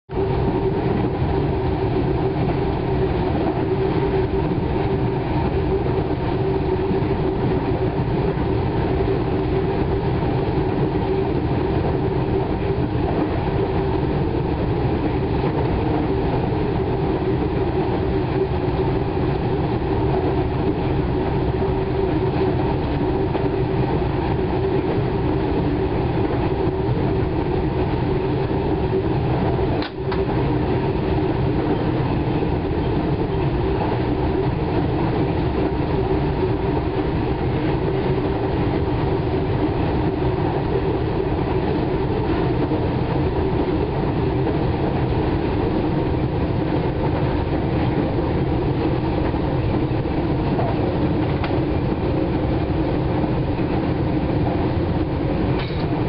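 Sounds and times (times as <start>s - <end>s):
steady drone: 0.1s - 56.0s
train wheels rumbling on rails: 0.1s - 56.0s.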